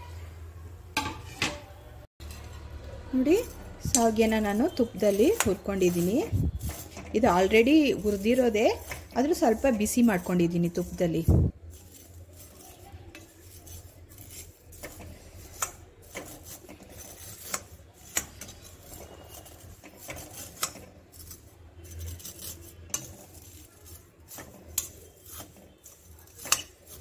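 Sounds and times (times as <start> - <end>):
spoon scraping metal pan: 1.0 - 27.0.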